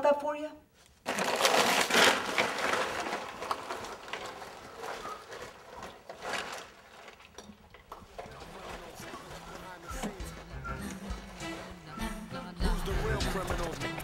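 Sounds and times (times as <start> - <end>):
paper bag rustling and crinkling: 0.8 - 12.0.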